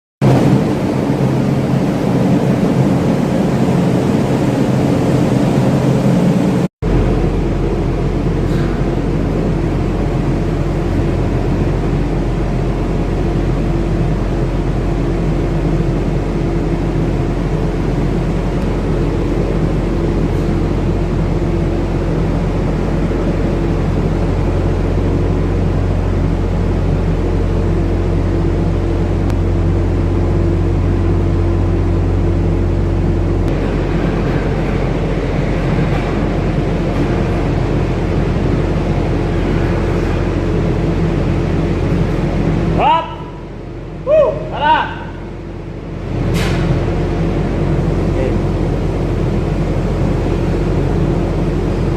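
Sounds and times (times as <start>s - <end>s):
engine-room machinery droning: 0.2s - 51.9s.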